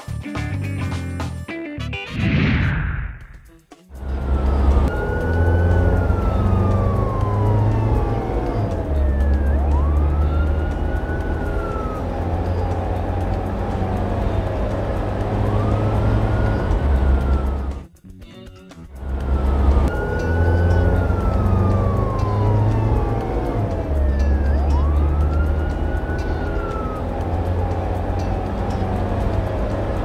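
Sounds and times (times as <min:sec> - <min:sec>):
police siren wailing: 0:04.0 - 0:17.9, 0:19.0 - 0:30.0.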